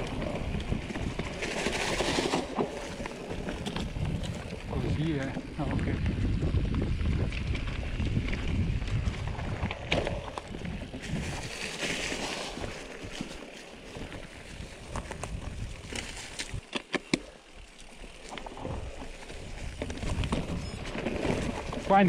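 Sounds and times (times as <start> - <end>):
wind rumble on microphone: 0.0 - 16.7, 18.5 - 22.0
bike tyres on leaves and dirt: 0.0 - 22.0
bike clicks and knocks: 0.1 - 4.6, 6.6 - 21.9.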